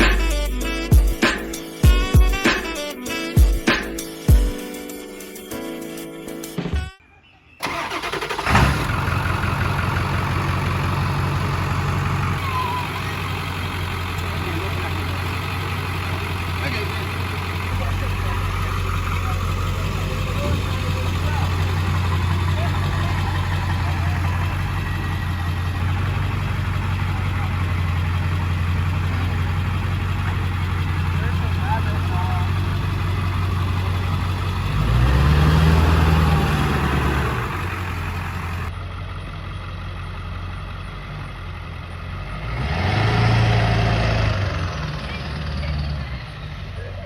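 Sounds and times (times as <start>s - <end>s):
diesel engine cranking: 7.6s - 47.0s
diesel engine idling: 7.6s - 47.0s.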